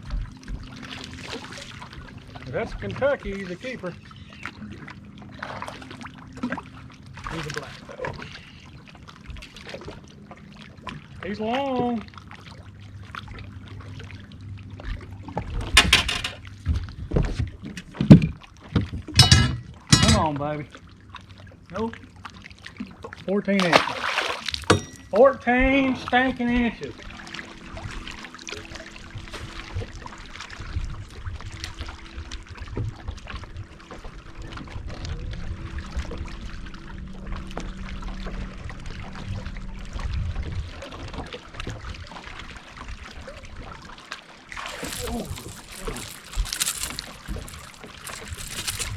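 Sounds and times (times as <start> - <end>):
water trickling and splashing: 0.0 - 19.2, 19.8 - 48.9.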